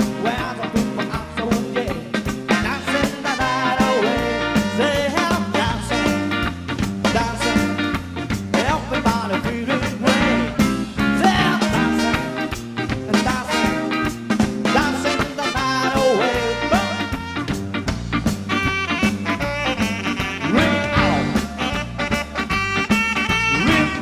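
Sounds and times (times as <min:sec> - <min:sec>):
live band playing upbeat music: 0:00.0 - 0:24.0.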